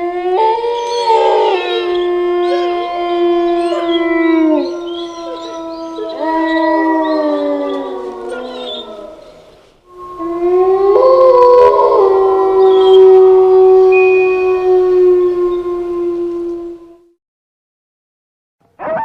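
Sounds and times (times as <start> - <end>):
werewolf howls: 0.0 - 17.1.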